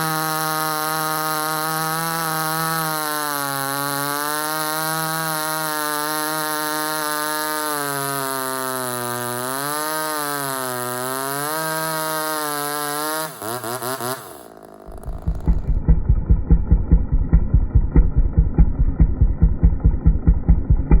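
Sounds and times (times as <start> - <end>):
chainsaw revving and idling: 0.0 - 21.0.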